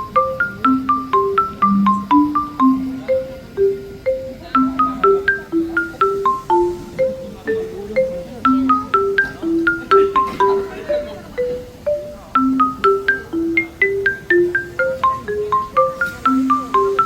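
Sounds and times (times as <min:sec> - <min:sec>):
bouncy melody of struck notes: 0:00.0 - 0:17.0.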